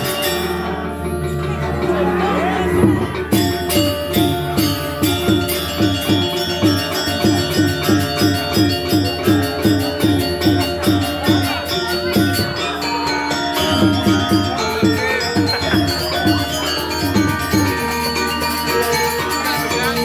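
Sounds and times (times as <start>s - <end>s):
gamelan playing: 0.0s - 20.0s.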